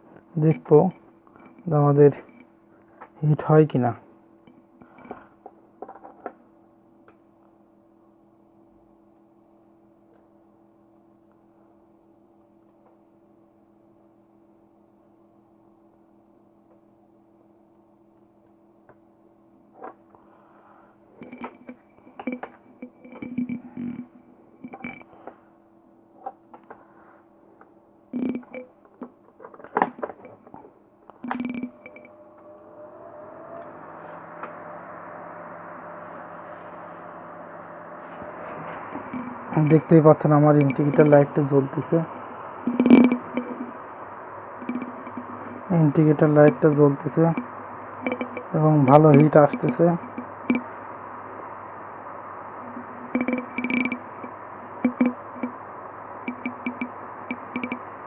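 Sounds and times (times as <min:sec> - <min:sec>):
heater humming: 0:00.0 - 0:58.0.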